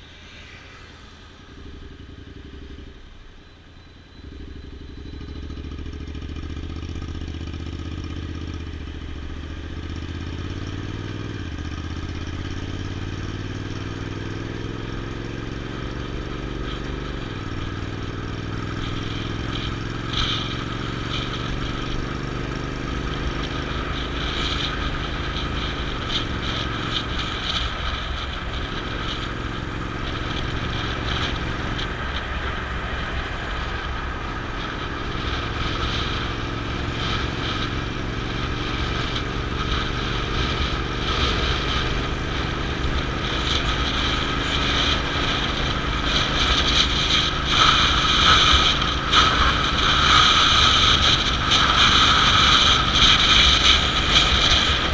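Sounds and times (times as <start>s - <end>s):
vehicle engine running: 0.0s - 54.9s
wind and road noise: 0.0s - 54.9s.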